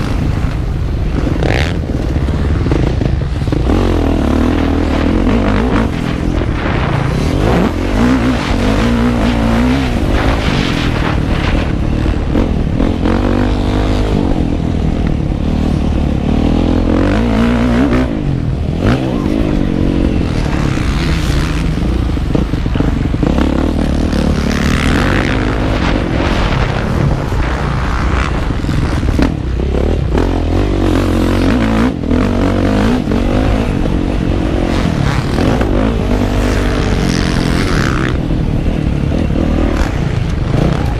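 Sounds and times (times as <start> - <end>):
motocross motorcycle engine revving: 0.0 - 40.9.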